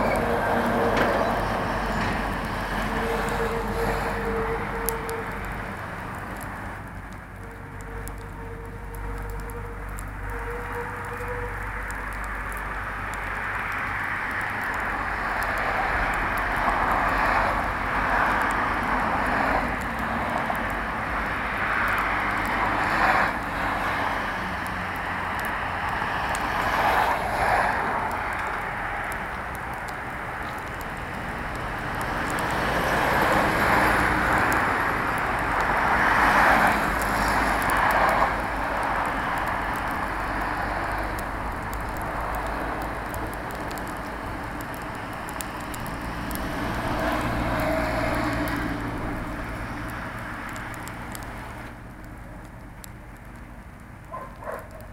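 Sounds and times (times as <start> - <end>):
fire crackles: 0.0 - 54.9
roar of flames: 0.0 - 54.9.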